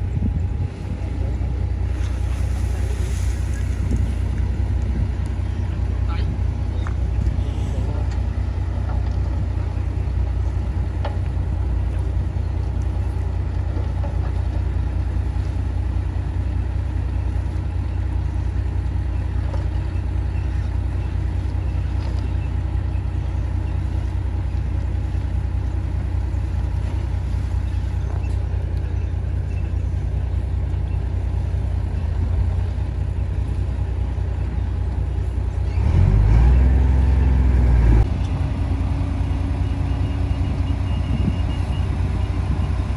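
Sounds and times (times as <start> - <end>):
diesel machinery engine drone: 0.0 - 42.9.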